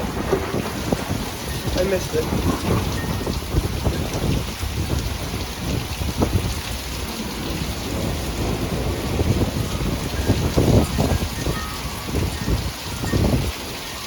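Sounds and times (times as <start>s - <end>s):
heavy rain pattering: 0.0s - 14.0s
thunder rumble: 0.0s - 14.0s.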